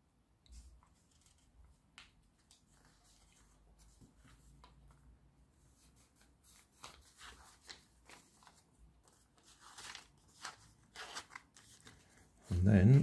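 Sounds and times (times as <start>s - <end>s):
paper rustling and crinkling: 0.8s - 5.0s, 5.7s - 13.0s.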